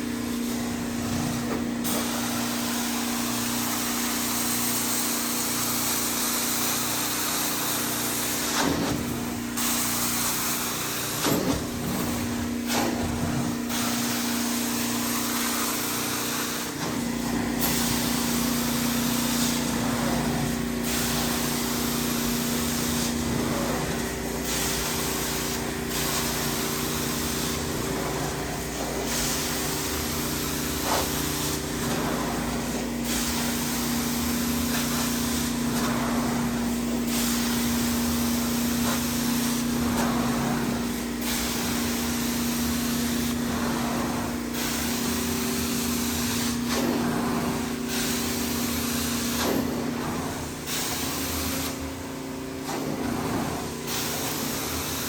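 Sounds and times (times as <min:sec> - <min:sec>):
carpet extraction machine humming: 0:00.0 - 0:55.0.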